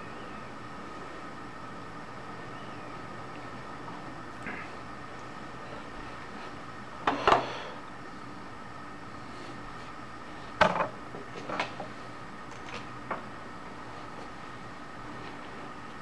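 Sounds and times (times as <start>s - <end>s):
faint high whine: 0.0s - 16.0s
steady hum: 0.0s - 16.0s.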